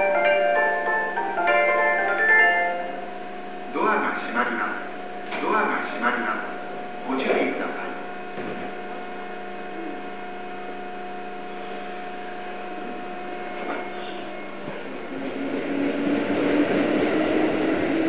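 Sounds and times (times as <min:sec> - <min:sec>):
electric train humming: 0:00.0 - 0:18.0
train motor whine: 0:00.0 - 0:18.0.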